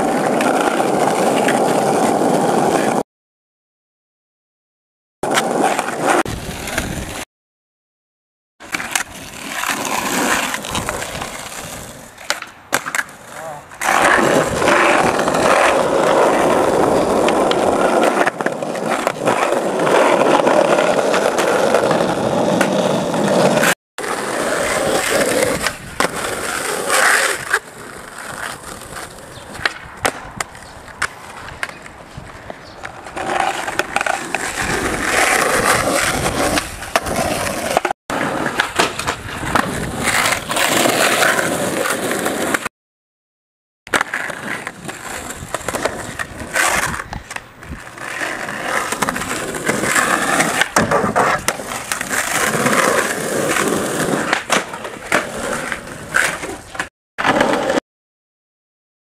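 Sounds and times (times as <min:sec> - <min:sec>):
skateboard wheels rolling: 0:00.0 - 0:03.0, 0:05.2 - 0:07.3, 0:08.6 - 0:42.7, 0:43.9 - 0:57.8
skateboard clacks: 0:08.6 - 0:42.7, 0:43.9 - 0:57.8.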